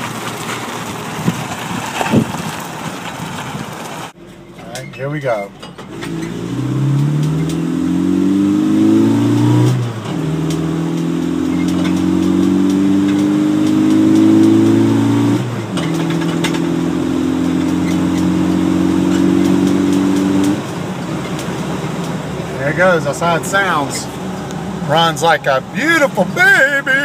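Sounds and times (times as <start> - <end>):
truck engine shifting gears: 0.0 - 27.0.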